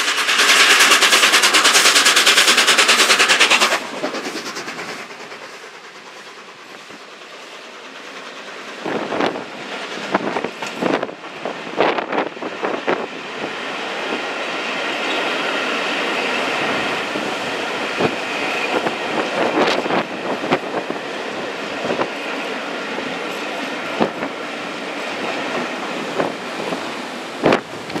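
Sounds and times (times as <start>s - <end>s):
rushing of passing train: 0.0s - 28.0s
train wheels clattering on track: 0.0s - 28.0s.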